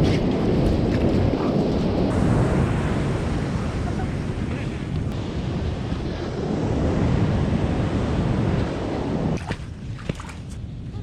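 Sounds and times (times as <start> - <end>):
ocean surf: 0.0 - 10.0
wind buffeting microphone: 0.0 - 11.0.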